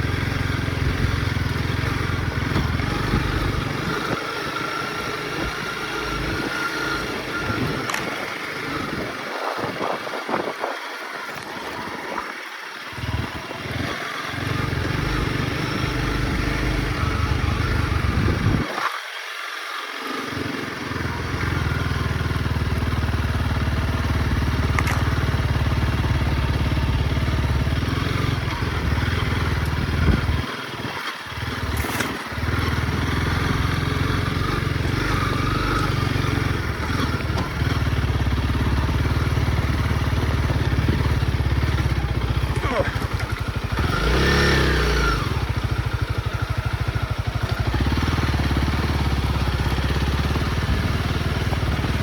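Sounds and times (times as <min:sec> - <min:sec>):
dirt bike engine droning: 0:00.0 - 0:52.0.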